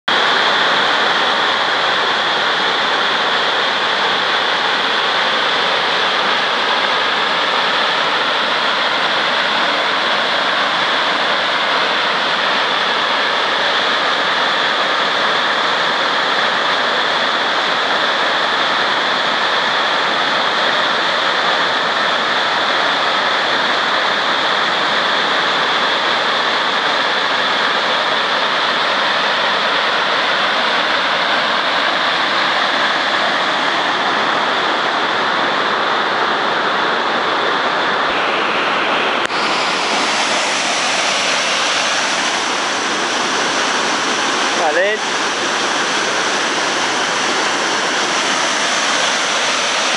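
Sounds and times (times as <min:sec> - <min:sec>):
waterfall rushing over rocks: 0:00.0 - 0:49.9.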